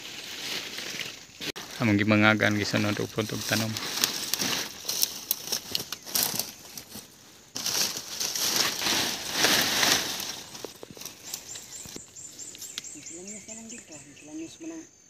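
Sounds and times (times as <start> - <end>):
dry grass and leaves rustling: 0.0 - 14.8.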